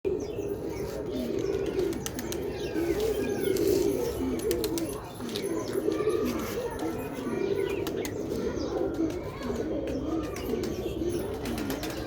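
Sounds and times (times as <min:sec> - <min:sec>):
pigeons cooing: 0:00.1 - 0:12.0.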